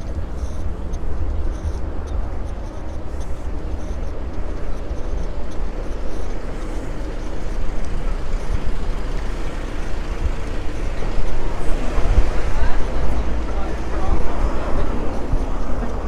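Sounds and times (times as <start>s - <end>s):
heavy low rumble: 0.0s - 16.0s.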